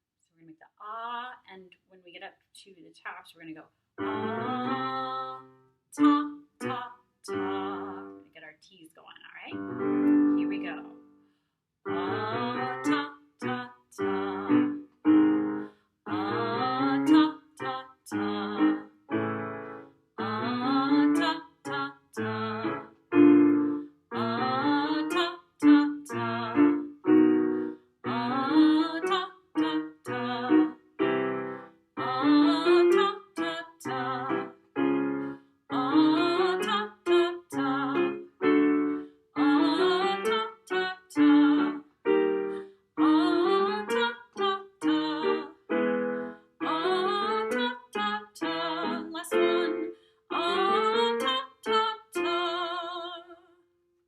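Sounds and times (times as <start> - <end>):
woman singing vocal warm-up: 3.0 - 8.5, 9.3 - 11.0, 11.9 - 14.8, 15.5 - 18.9, 20.2 - 53.6
piano accompaniment: 4.0 - 8.2, 9.5 - 11.2, 11.9 - 53.0.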